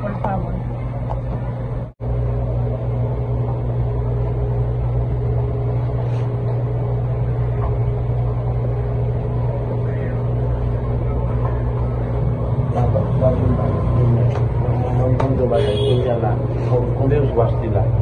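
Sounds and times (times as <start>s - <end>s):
faint noisy background: 0.0s - 18.0s
low engine-like hum: 0.0s - 18.0s.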